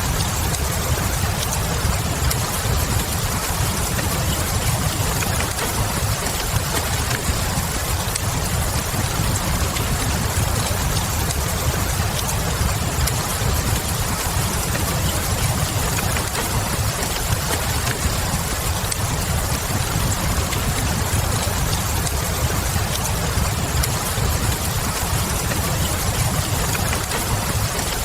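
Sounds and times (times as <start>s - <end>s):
steady rain: 0.0s - 28.0s
wood fire crackling: 0.0s - 28.0s.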